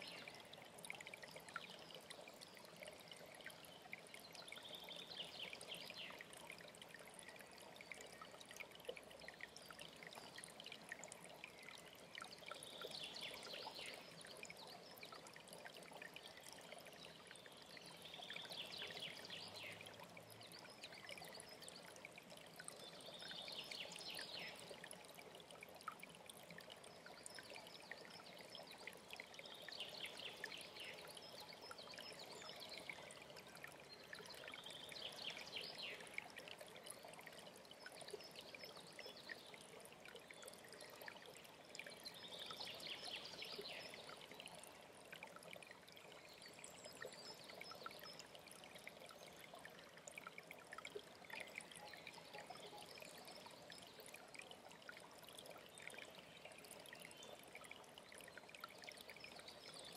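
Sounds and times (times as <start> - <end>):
faint stream trickling: 0.0 - 59.9.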